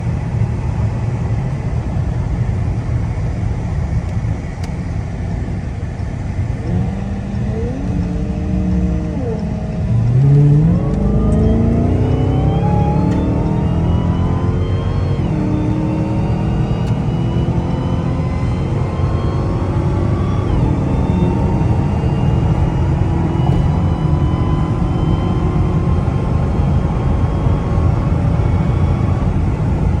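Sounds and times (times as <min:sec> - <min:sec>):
car engine rumbling and revving: 0:00.0 - 0:30.0
supercharger whine: 0:00.0 - 0:30.0.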